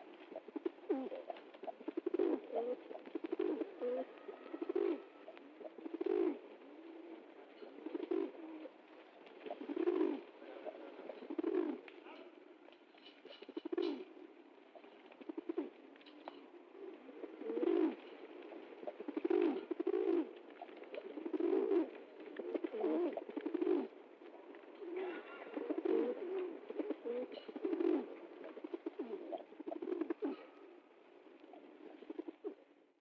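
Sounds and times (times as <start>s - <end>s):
pigeons cooing: 0.0s - 12.4s, 13.2s - 32.7s.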